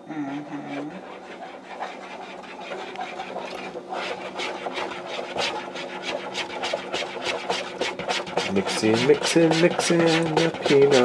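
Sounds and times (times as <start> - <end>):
utensil stirring and scraping bowl: 0.3 - 11.0.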